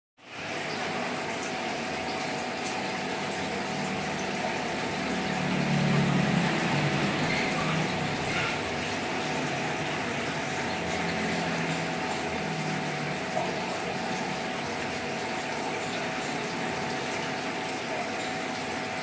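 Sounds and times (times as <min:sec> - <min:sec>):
aquarium pump and filter running: 0:00.2 - 0:19.0
water pouring and bubbling: 0:00.2 - 0:19.0.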